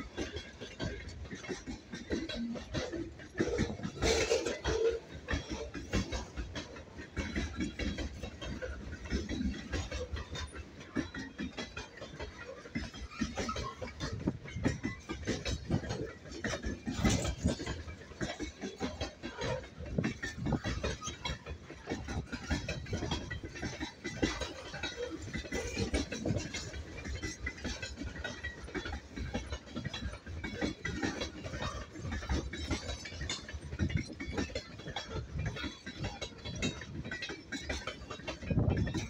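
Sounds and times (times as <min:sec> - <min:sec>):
freight train wheels clattering: 0:00.0 - 0:39.0.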